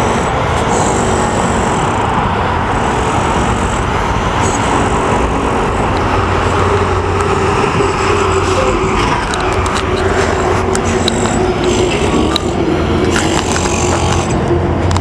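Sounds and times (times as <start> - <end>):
passing cars rumbling: 0.0 - 15.0
steady engine hum: 0.0 - 15.0.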